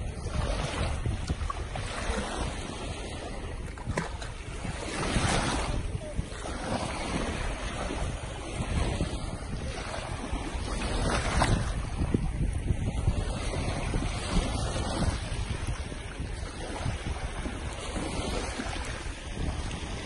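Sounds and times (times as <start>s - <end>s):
small waves washing: 0.0s - 20.0s
wind buffeting microphone: 0.0s - 20.0s.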